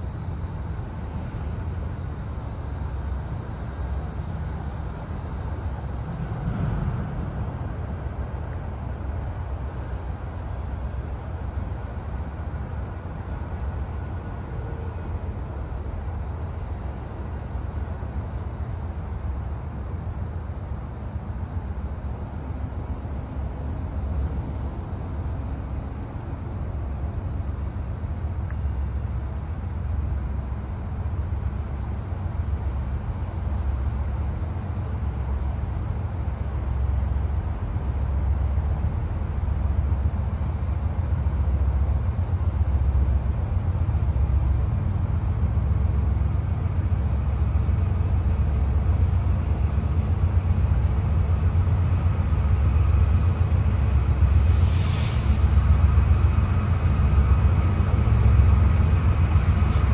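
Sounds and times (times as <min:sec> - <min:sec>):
diesel locomotive engine rumble: 0:00.0 - 0:59.9.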